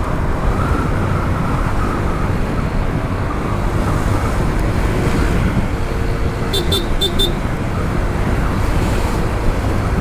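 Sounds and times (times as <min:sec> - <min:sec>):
road noise: 0:00.0 - 0:10.0
wind rush on microphone: 0:00.0 - 0:10.0.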